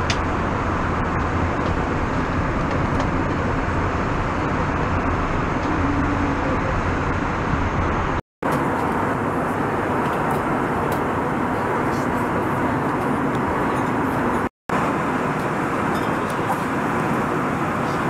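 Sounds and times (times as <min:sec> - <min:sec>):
airliner cabin noise: 0:00.0 - 0:18.0.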